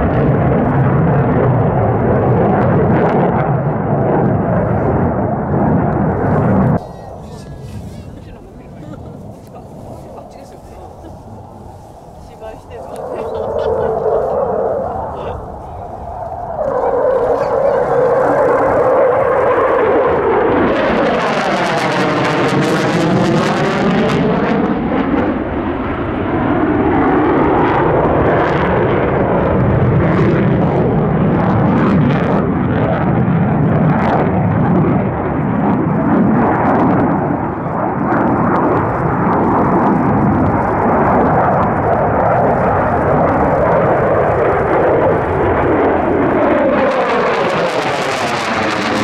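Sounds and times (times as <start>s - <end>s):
loud jet noise: 0.0s - 49.0s.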